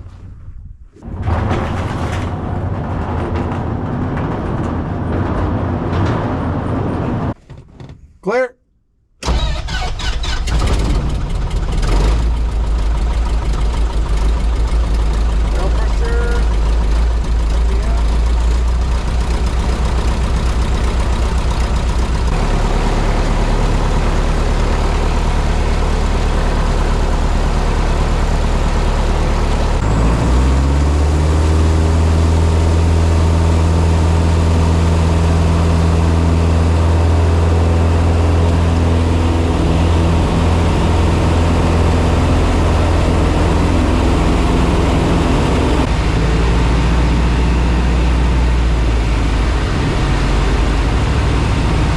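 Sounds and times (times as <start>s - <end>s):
light aircraft engine and propeller: 9.2s - 51.9s.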